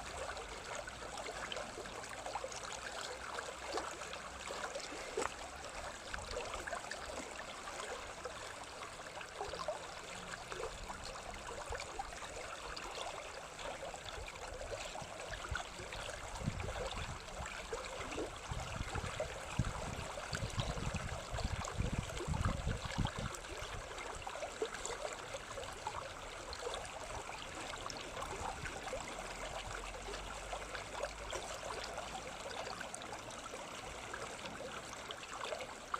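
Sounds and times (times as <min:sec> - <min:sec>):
stream water trickling: 0:00.0 - 0:35.9.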